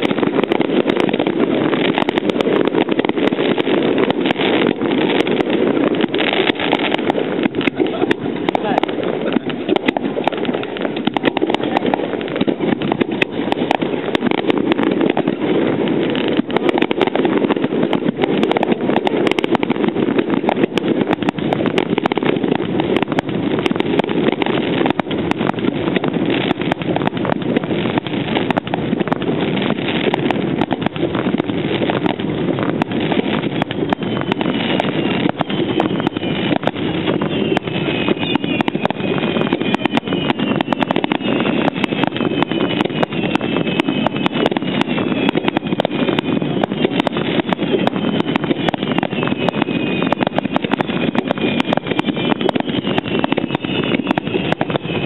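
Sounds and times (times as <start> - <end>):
fireworks roaring and crackling: 0.0 - 55.0
fireworks whistles falling in pitch: 0.0 - 55.0.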